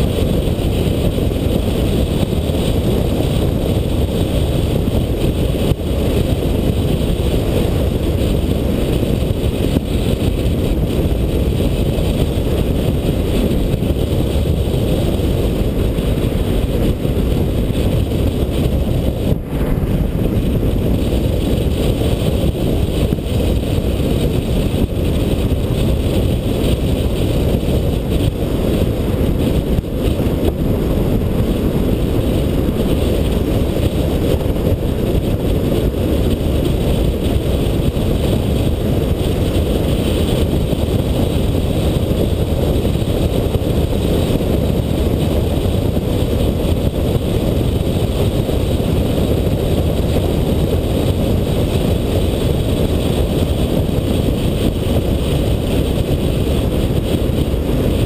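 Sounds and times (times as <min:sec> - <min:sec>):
car driving on road rumble: 0:00.0 - 0:58.0.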